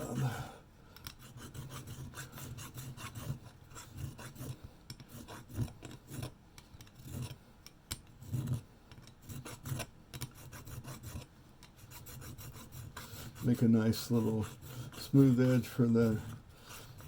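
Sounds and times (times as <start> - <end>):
hand file scraping metal: 1.1 - 7.4, 8.1 - 17.0.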